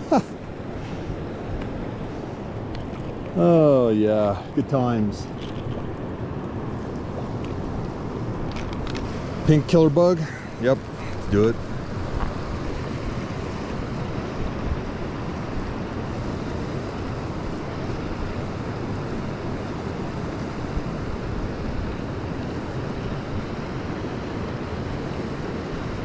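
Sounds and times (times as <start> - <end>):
fast-flowing stream: 0.0 - 26.0.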